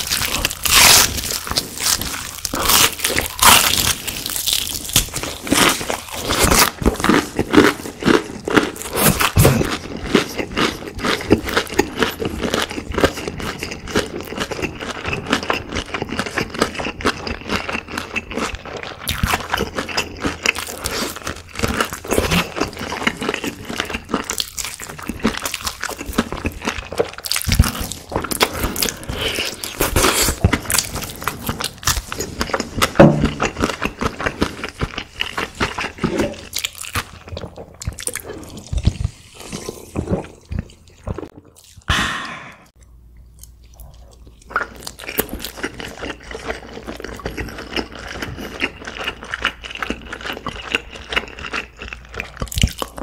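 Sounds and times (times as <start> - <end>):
crunching fried chicken: 0.0 - 41.9, 43.4 - 53.0.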